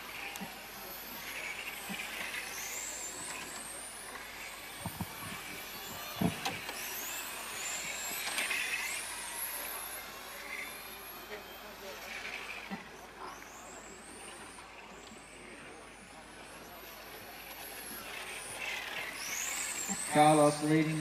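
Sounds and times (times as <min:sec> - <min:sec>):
model car motors whining: 0:00.0 - 0:21.0.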